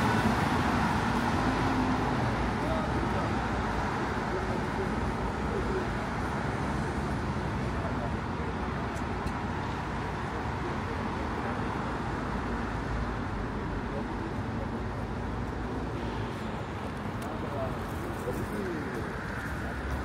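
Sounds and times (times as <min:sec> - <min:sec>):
chatter of passers-by: 0:00.0 - 0:20.0
road traffic hum: 0:00.0 - 0:20.0.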